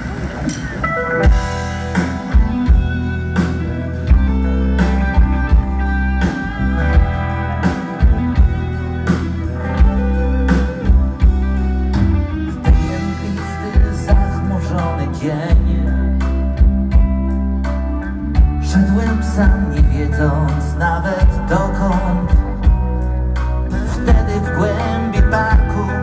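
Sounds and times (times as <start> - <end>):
rock band playing: 0.0 - 26.0
sustained guitar chords: 0.0 - 26.0.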